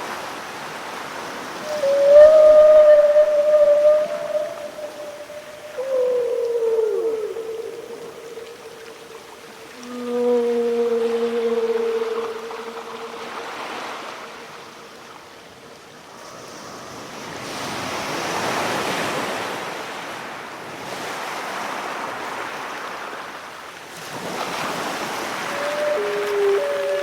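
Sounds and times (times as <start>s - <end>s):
ocean waves washing: 0.0s - 23.4s, 24.0s - 27.0s.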